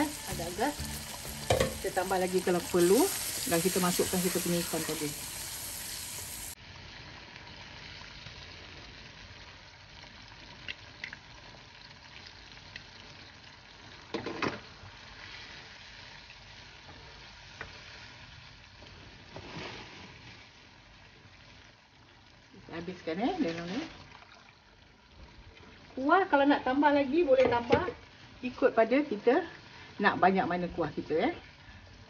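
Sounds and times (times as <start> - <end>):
food sizzling in a frying pan: 0.0 - 24.1, 24.7 - 32.0.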